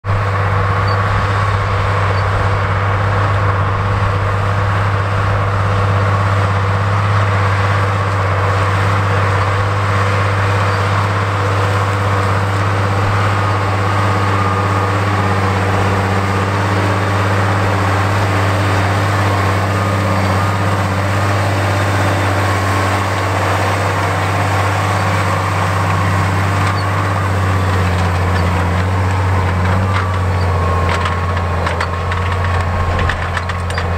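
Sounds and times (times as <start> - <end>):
tractor diesel engine droning: 0.0 - 33.9.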